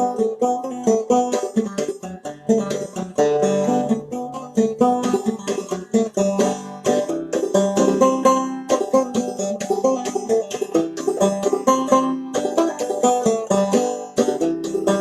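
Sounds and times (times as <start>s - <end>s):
banjo playing: 0.0s - 15.0s.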